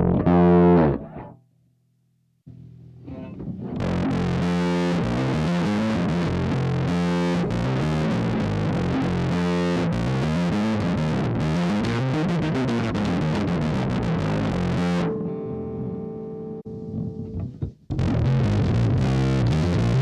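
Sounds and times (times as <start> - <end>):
distorted electric bass riff: 0.0 - 1.4, 2.5 - 20.0.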